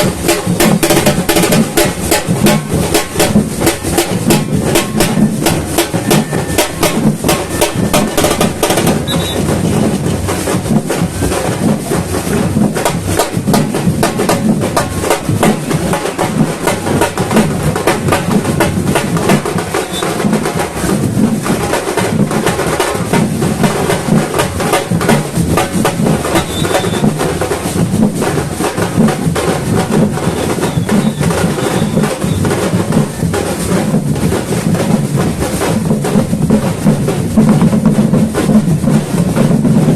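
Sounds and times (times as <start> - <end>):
bass drums: 0.0 - 39.9
high sharp percussion strikes: 0.0 - 39.9
snare drums: 0.0 - 39.9.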